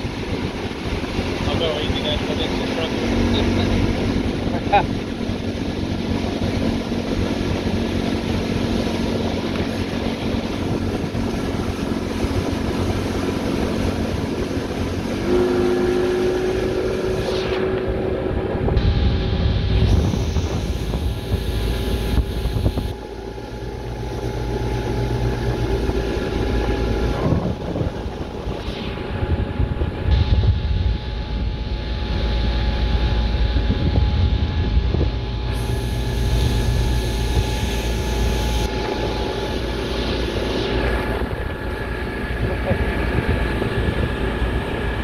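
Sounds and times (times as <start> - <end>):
water rushing: 0.0 - 30.0, 35.6 - 45.0
outboard motor running: 0.0 - 45.0
wind buffeting microphone: 0.0 - 45.0.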